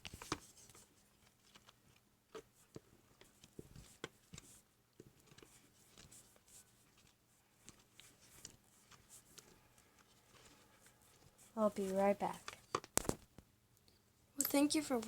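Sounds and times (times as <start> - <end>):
wooden spoon stirring slime: 0.0 - 13.0.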